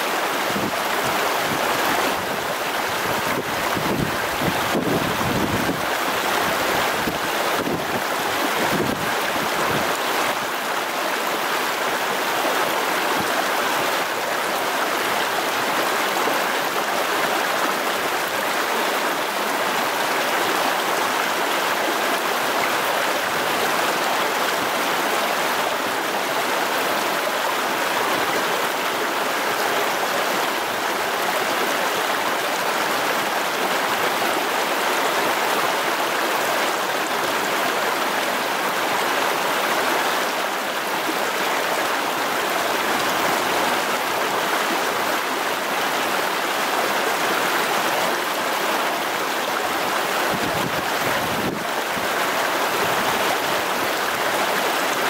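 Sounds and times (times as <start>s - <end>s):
stream rushing water: 0.0s - 55.0s.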